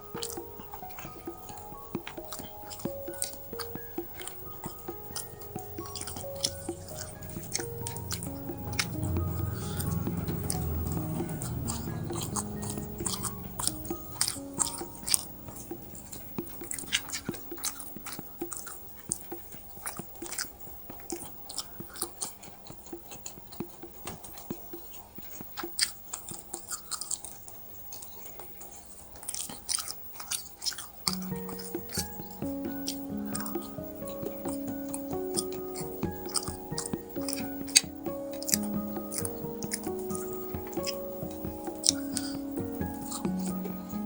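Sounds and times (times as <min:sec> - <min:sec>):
background music: 0:00.0 - 0:22.0, 0:29.3 - 0:44.0
person chewing crunchy food: 0:00.0 - 0:44.0.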